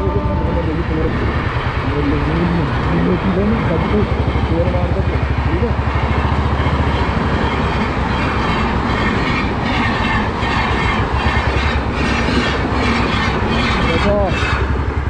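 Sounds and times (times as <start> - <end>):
motorcycle engine running: 0.0 - 15.0
rhythmic clatter: 0.0 - 15.0
wind noise: 0.0 - 15.0.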